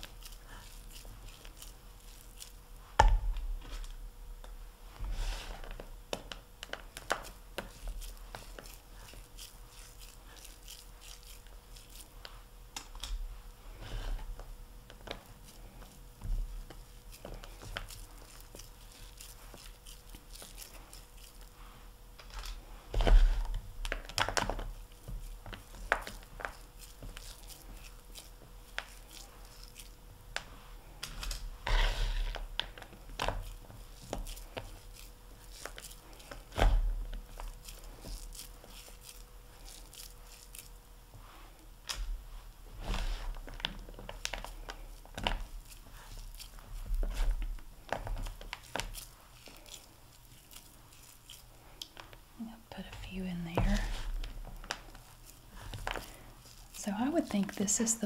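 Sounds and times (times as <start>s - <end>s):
hands crunching crumbly mixture: 0.0s - 4.0s, 5.0s - 58.0s.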